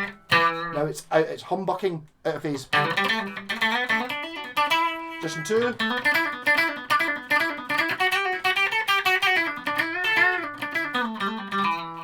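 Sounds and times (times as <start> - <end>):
electric guitar single notes: 0.0 - 1.0, 2.7 - 12.0.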